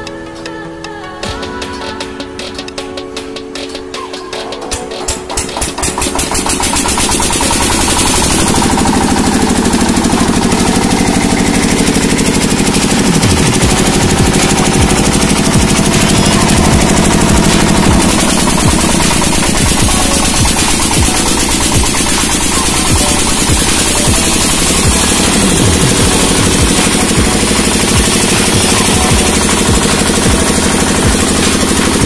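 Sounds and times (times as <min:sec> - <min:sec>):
diesel engine knocking: 0:01.2 - 0:32.0.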